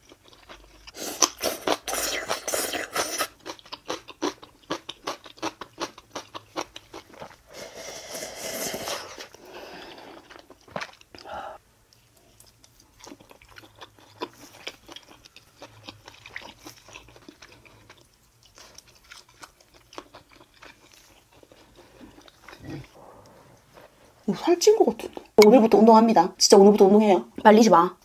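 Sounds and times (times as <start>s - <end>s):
chewing crunchy food: 0.0s - 11.3s, 11.9s - 24.3s.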